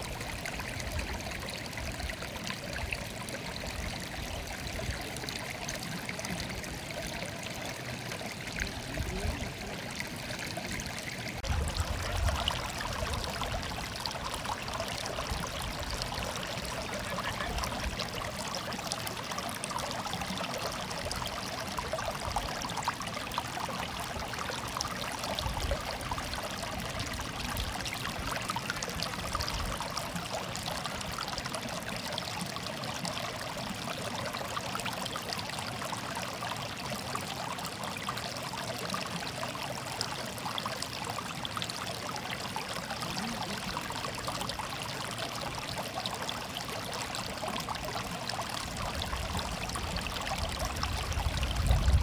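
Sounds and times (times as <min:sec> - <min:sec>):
water babbling in a stream: 0:00.0 - 0:52.0.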